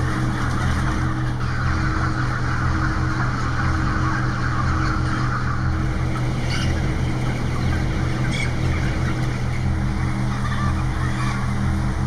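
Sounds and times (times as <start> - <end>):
chicken calls: 0.0 - 12.0
murmur of chickens: 0.0 - 12.0
ventilation fans humming: 0.0 - 12.0.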